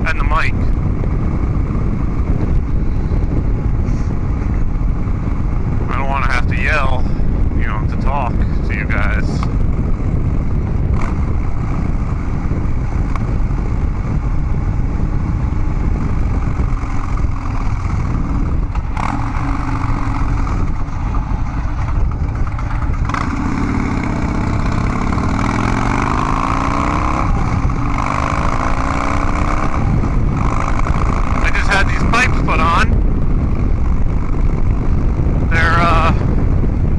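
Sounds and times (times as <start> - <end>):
motorcycle engine accelerating: 0.0 - 36.9.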